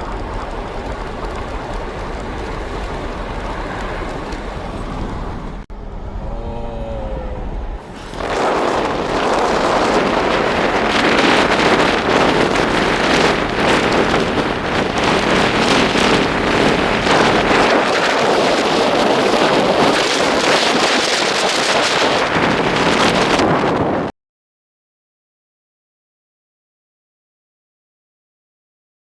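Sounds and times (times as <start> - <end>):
air rushing through car window: 0.0 - 24.1.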